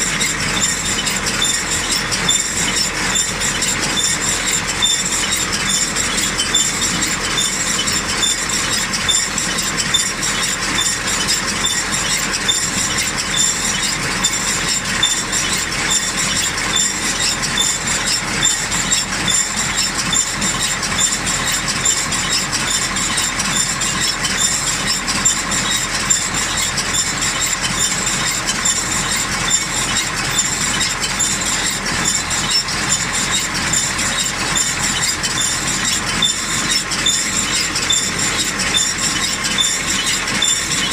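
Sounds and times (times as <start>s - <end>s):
baler mechanical clatter: 0.0s - 40.9s.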